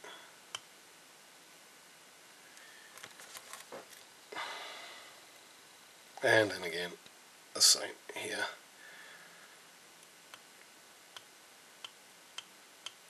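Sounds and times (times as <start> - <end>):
soft hiss: 0.0 - 13.0.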